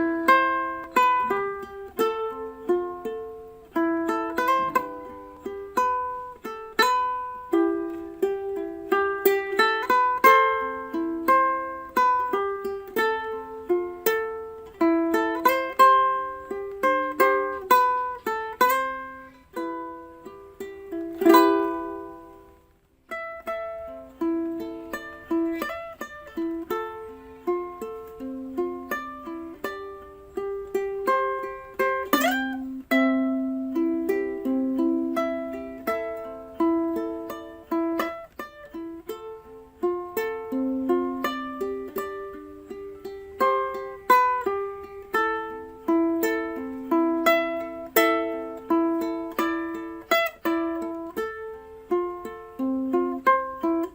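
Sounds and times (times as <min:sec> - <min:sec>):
plucked string tune: 0:00.0 - 0:53.9.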